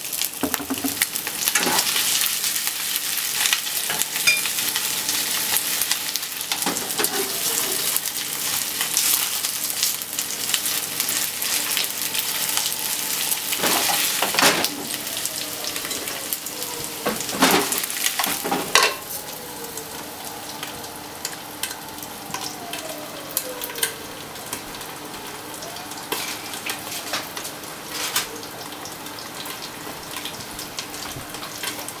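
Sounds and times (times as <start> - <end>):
chicken sizzling in a frying pan: 0.0 - 32.0
crackles and pops of frying: 0.0 - 32.0.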